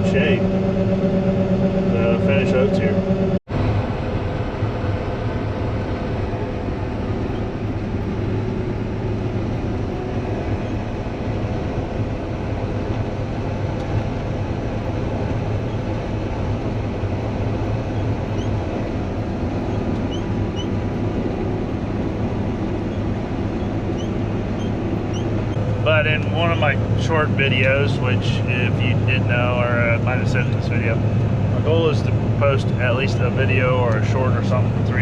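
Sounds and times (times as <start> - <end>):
low engine drone: 0.0 - 35.0
machine drives humming: 0.0 - 35.0.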